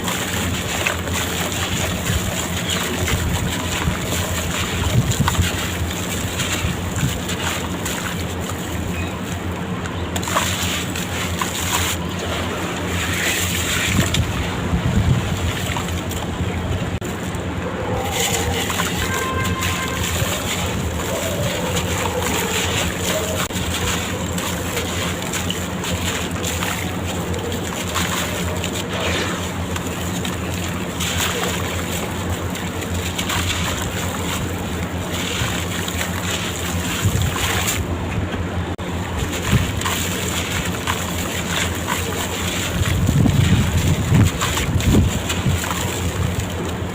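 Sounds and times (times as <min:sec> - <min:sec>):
water sloshing and splashing: 0:00.0 - 0:46.9.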